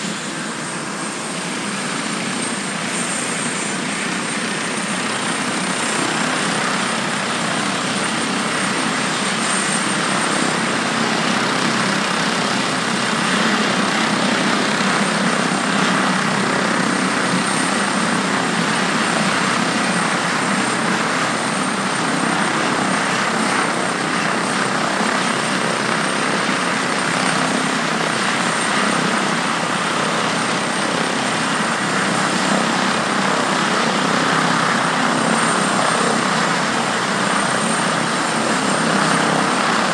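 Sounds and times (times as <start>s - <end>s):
helicopter rotor rush: 0.0s - 39.9s
helicopter turbine whine: 0.0s - 39.9s.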